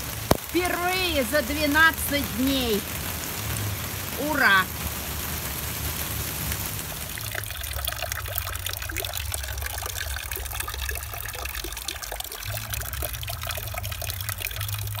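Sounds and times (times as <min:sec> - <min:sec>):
low steady rumble: 0:00.0 - 0:15.0
rainwater splashing into a barrel: 0:00.0 - 0:15.0
water dripping: 0:00.0 - 0:15.0.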